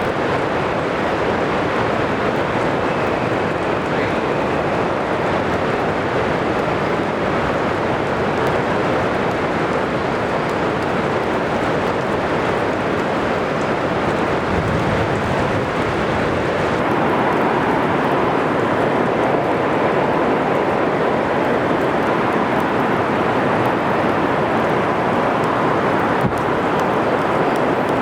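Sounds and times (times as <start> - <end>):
heavy rain: 0.0 - 28.0
wind: 0.0 - 28.0.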